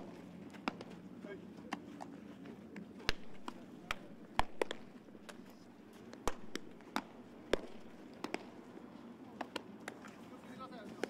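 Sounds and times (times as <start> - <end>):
baseballs smacking into gloves: 0.0 - 10.2.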